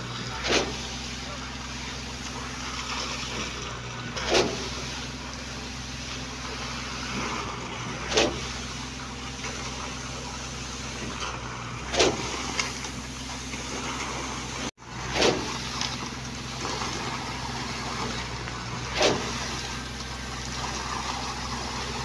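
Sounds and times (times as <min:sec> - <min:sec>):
concrete pump engine running: 0:00.0 - 0:22.0
wet concrete surging through hose: 0:00.0 - 0:22.0.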